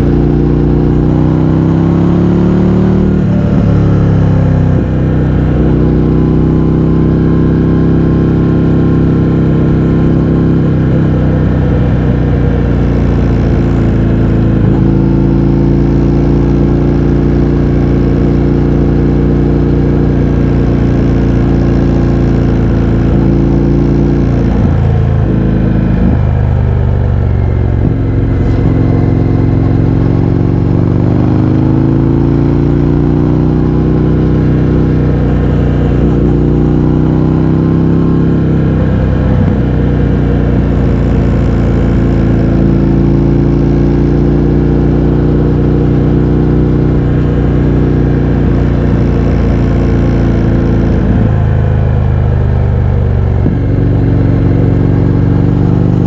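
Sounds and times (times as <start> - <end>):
motorcycle v-twin engine riding: 0.0 - 56.0.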